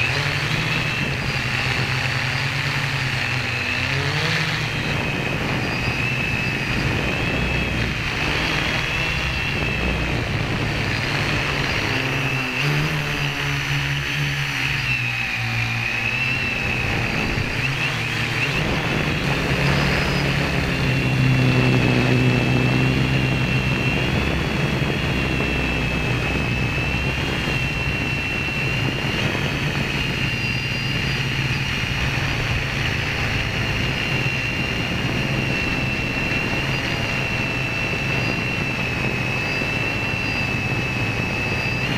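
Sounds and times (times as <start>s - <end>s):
drone motors whining: 0.0s - 41.9s
low hum: 0.0s - 41.9s.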